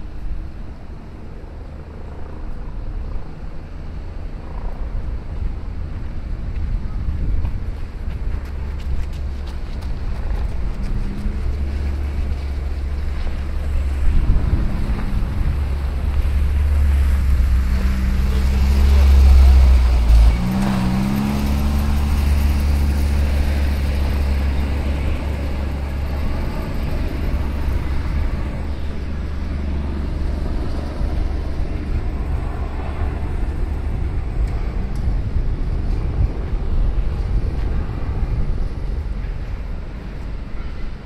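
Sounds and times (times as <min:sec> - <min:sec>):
engine passing: 0:00.0 - 0:41.0
steady low rumble: 0:00.0 - 0:41.0.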